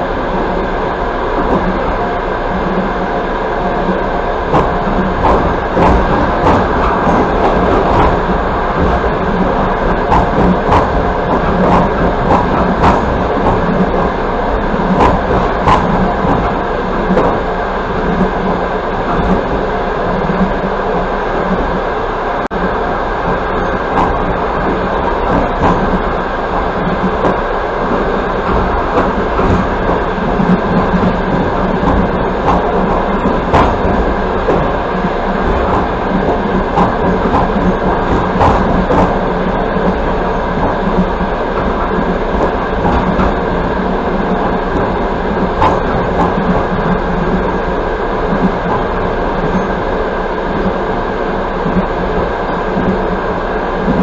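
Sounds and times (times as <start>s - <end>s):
sharp clicks of train wheels: 0.0s - 54.0s
train wheels rumbling on rails: 0.0s - 54.0s.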